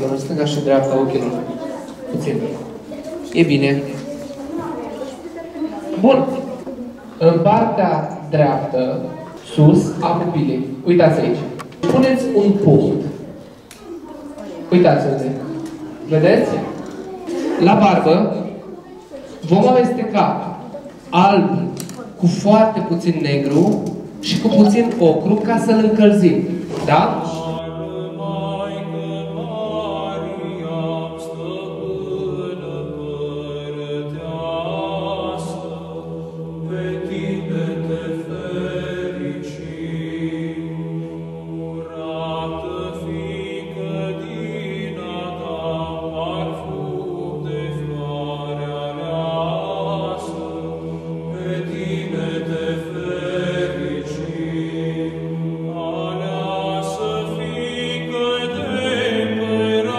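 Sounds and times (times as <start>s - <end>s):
voices chanting slow melody: 0.0s - 23.2s, 23.8s - 59.9s.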